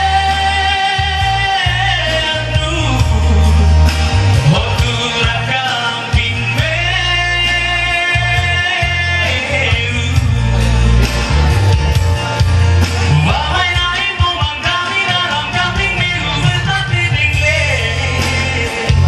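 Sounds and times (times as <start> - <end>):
man singing into microphone: 0.0 - 11.0, 13.0 - 19.0
amplified band music: 0.0 - 19.0.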